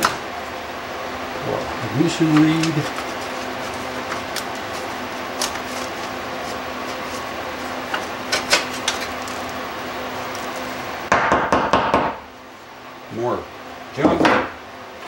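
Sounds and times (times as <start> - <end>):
shop vacuum running: 0.0 - 15.0.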